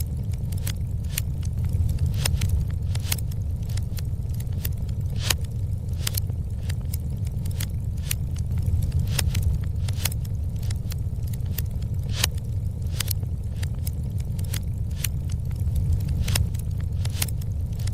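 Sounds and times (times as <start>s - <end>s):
crackles and pops of burning wood: 0.0s - 17.9s
fire roaring: 0.0s - 17.9s.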